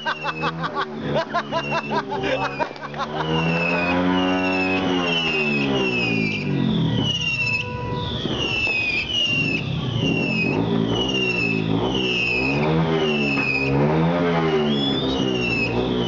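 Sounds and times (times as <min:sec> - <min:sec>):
electronic siren wails: 0:00.0 - 0:16.0.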